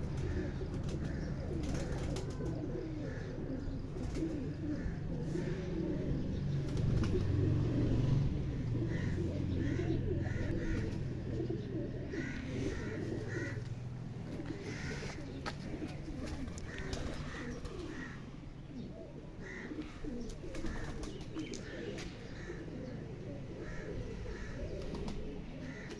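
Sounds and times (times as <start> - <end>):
pigeons cooing: 0.0 - 25.9.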